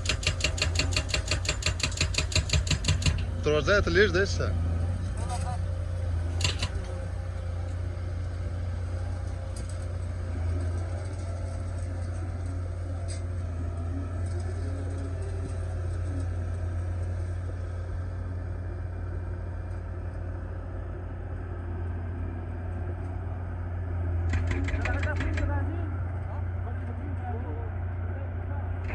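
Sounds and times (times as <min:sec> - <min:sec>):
excavator engine running: 0:00.0 - 0:28.9.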